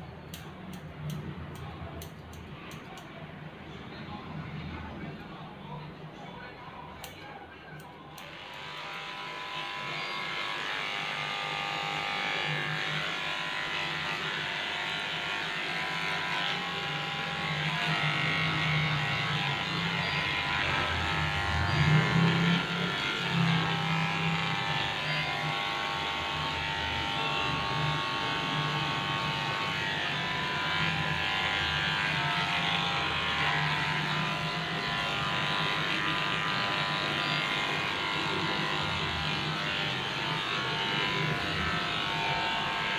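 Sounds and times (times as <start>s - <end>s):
pet hair clipper buzzing: 0.3s - 3.1s, 7.0s - 42.9s.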